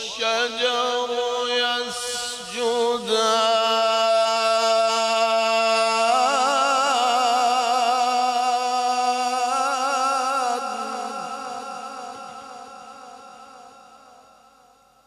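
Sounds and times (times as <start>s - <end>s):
man chanting melodically: 0.0s - 14.4s.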